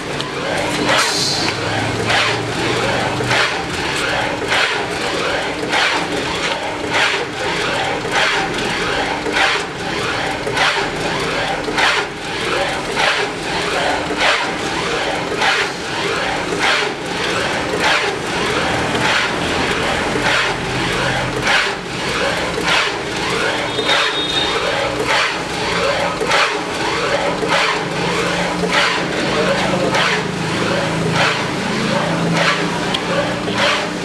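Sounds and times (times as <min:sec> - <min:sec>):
sharp machine clacks: 0:00.0 - 0:34.0
shelling machine running: 0:00.0 - 0:34.0.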